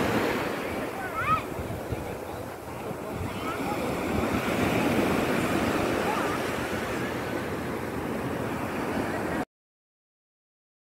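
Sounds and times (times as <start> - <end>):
surf washing onto beach: 0.0 - 9.4.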